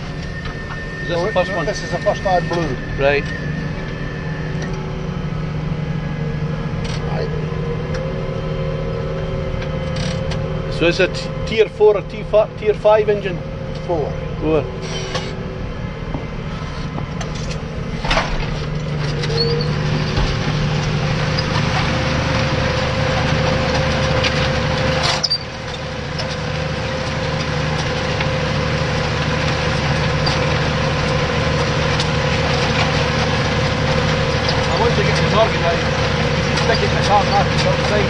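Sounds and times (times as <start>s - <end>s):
tractor engine droning: 0.0s - 38.0s.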